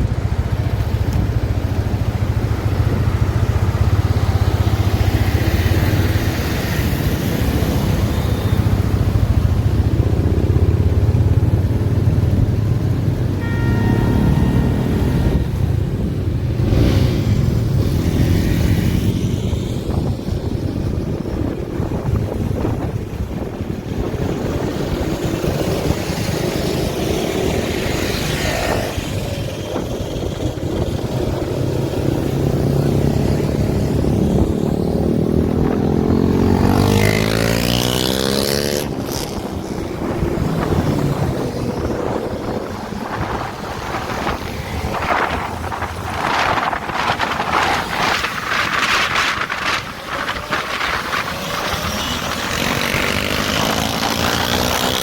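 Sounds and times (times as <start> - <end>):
motorcycle engine accelerating: 0.0 - 55.0
wind noise on microphone: 0.0 - 55.0.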